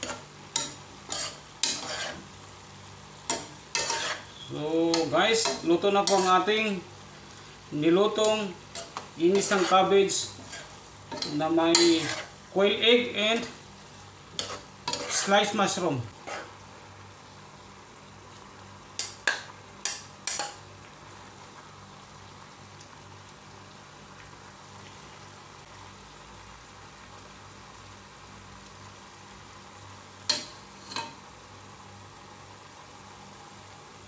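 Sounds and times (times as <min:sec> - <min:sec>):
faint pan sizzle: 0:00.0 - 0:34.0.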